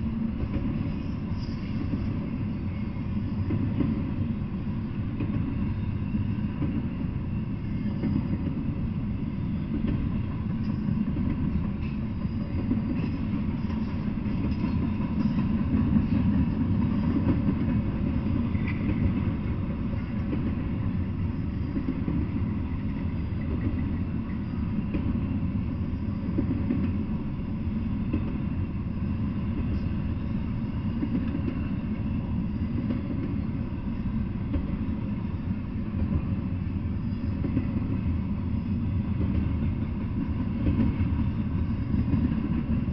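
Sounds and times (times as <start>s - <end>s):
freight train rumbling on rails: 0.0s - 42.9s.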